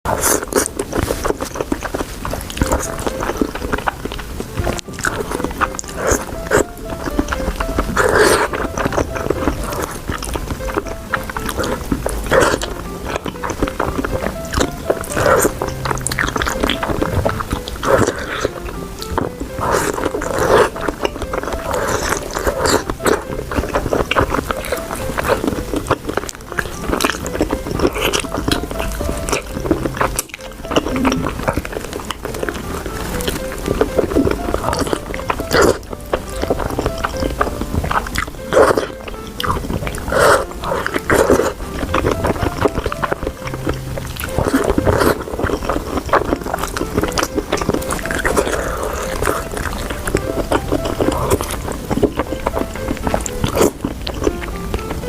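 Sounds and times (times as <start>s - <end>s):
background music: 0.1s - 55.0s
crunchy bites and chewing: 0.1s - 55.0s.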